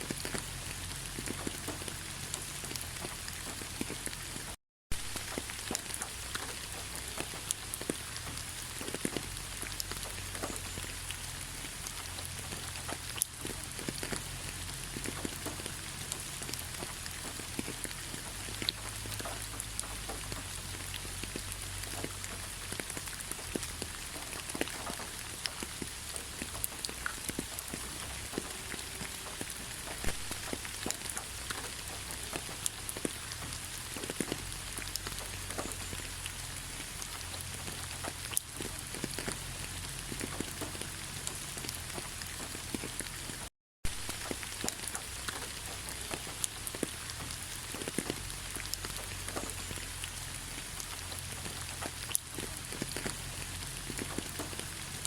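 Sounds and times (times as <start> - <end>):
rain drops ticking on hard surface: 0.0 - 55.0
rain hiss: 0.0 - 55.0.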